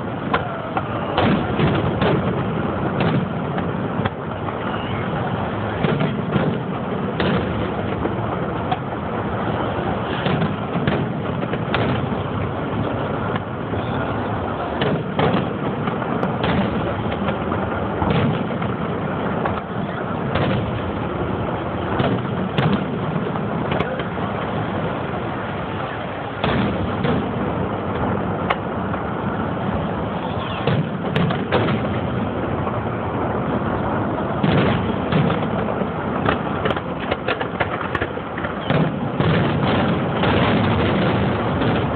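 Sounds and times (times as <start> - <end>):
distant fireworks bursting: 0.0 - 41.9
steady background rumble: 0.0 - 41.9.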